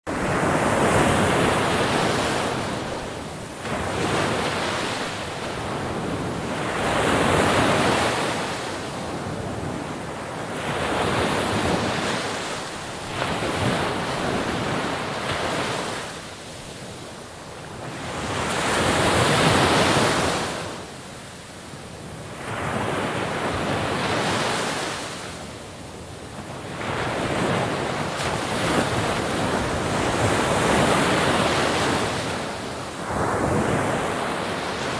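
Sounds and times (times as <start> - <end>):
ocean waves breaking: 0.1 - 21.2, 26.3 - 34.9.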